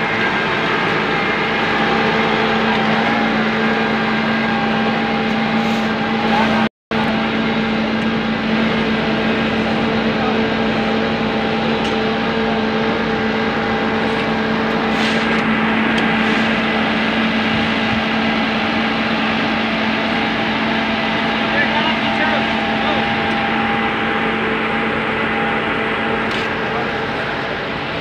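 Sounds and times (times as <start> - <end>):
diesel engine running steadily: 0.0 - 28.0.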